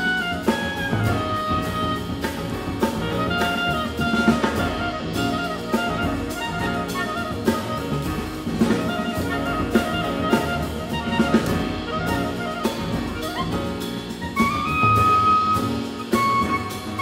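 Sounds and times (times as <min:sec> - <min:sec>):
clarinet melody: 0:00.0 - 0:17.0
drum kit with cymbals: 0:00.0 - 0:17.0
piano chords: 0:00.0 - 0:17.0
plucked double bass: 0:00.0 - 0:17.0.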